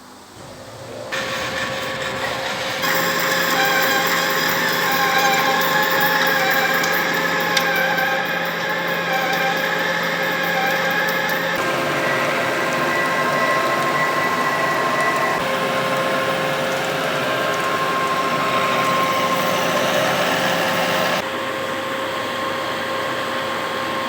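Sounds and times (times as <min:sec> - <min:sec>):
metal lathe running: 0:00.3 - 0:21.3.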